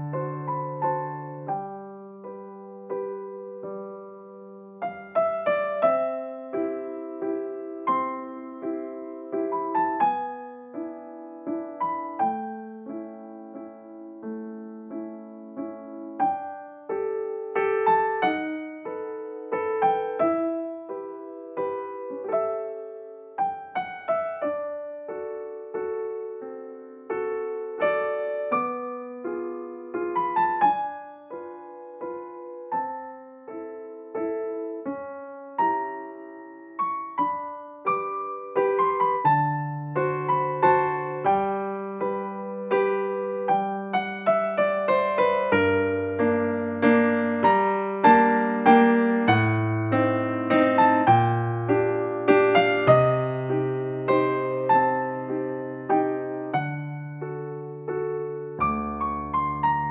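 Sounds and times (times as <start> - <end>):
piano notes and chords: 0.0 - 59.9.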